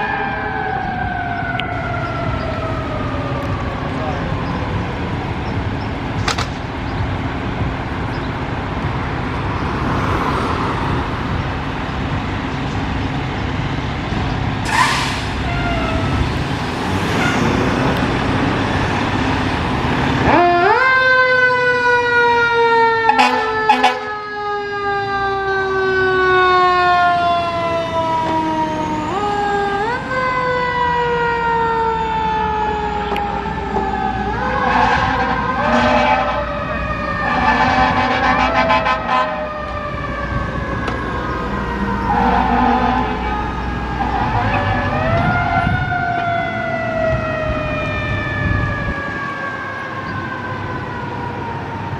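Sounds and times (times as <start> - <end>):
fire truck siren wailing: 0.0 - 51.9
road rumble: 0.0 - 51.9
heavy truck engine: 1.6 - 20.7, 25.2 - 51.9.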